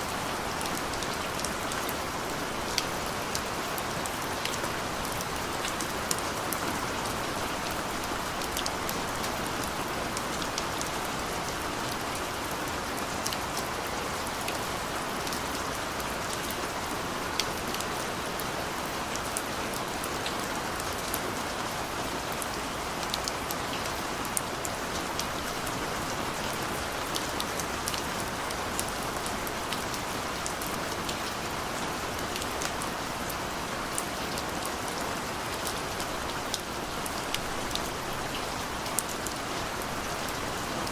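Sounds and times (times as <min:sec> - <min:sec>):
steady rain pattering: 0:00.0 - 0:40.9.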